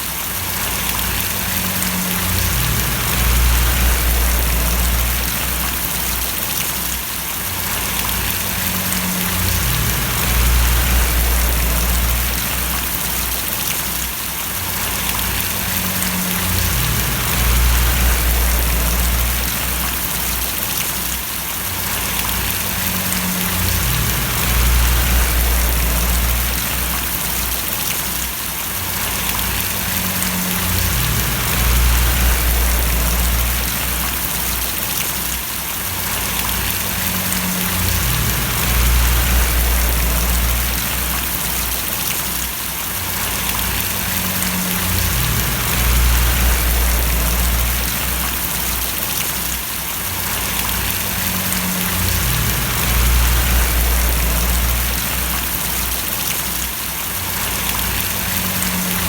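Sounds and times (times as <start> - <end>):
heavy rain pattering: 0.0 - 59.0
low rumble: 0.7 - 6.4, 7.8 - 13.8, 14.8 - 20.6, 21.9 - 27.9, 29.0 - 34.8, 36.1 - 42.2, 43.2 - 49.2, 50.4 - 56.4.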